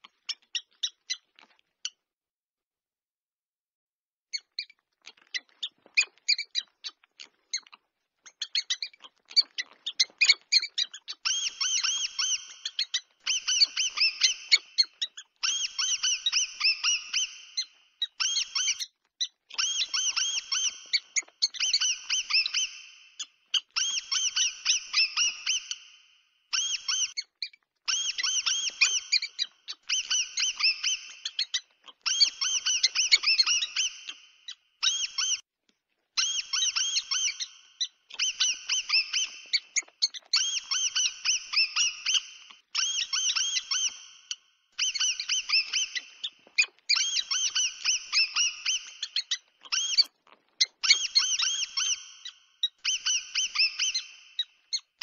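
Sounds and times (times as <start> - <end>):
mouse squeaking: 0.0 - 2.0, 4.3 - 35.4, 36.1 - 55.0.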